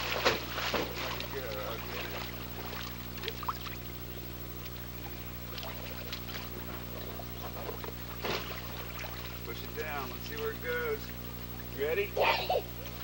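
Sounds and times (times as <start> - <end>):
water sloshing and splashing: 0.0 - 4.0, 4.6 - 11.8
steady low hum: 0.0 - 13.0.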